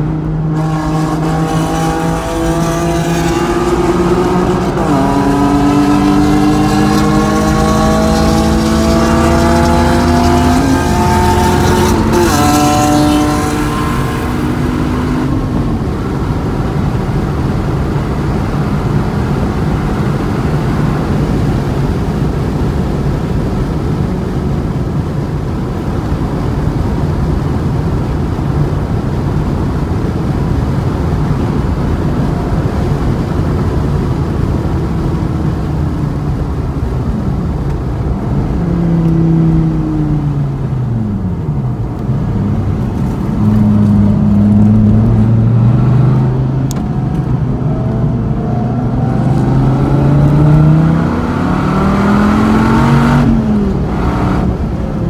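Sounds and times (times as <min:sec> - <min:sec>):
sports car engine revving: 0:00.0 - 0:20.1, 0:30.8 - 0:55.0
wind and road noise: 0:00.0 - 0:55.0.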